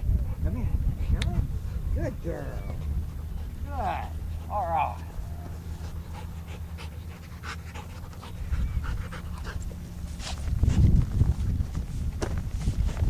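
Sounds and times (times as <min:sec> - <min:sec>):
dog panting: 0:00.0 - 0:11.1
low rumbling noise: 0:00.0 - 0:13.0.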